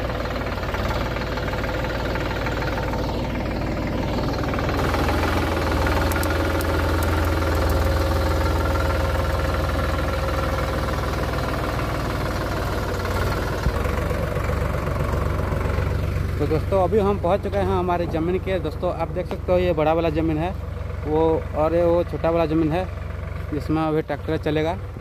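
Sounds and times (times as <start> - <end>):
tractor diesel engine knocking: 0.0 - 25.0.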